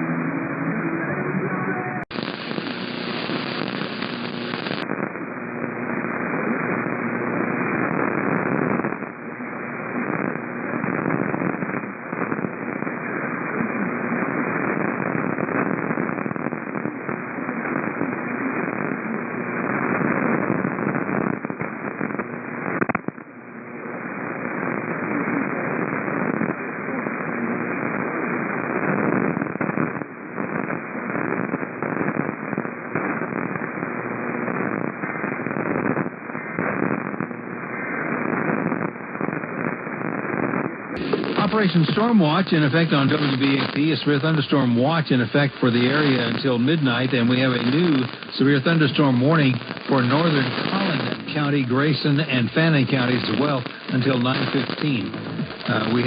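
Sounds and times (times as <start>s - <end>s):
radio static crackling hiss: 0.0s - 56.0s.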